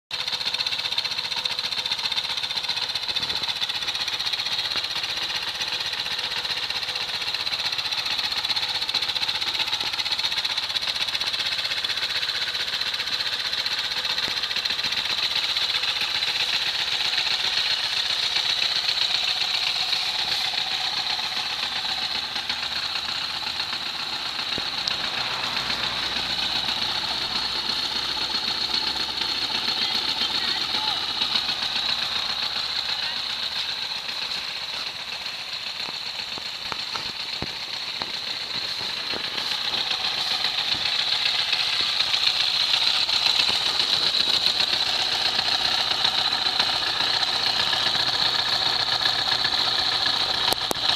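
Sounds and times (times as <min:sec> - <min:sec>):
quad bike engine idling: 0:00.1 - 0:50.9.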